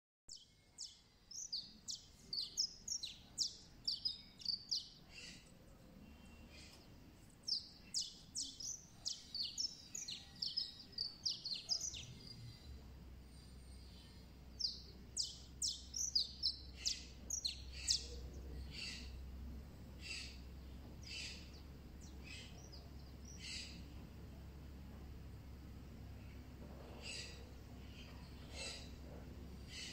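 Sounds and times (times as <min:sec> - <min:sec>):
bird chirping: 0:00.3 - 0:19.3, 0:19.9 - 0:24.0, 0:26.2 - 0:29.9
low hum: 0:00.5 - 0:29.9.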